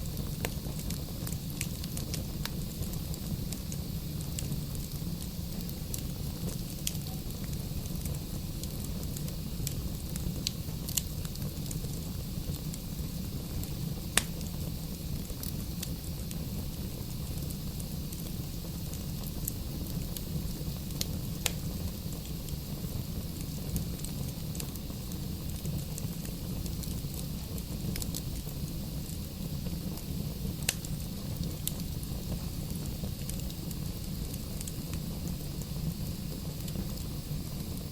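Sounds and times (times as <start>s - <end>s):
burning logs crackling and popping: 0.0s - 37.9s
rumble of flames: 0.0s - 37.9s.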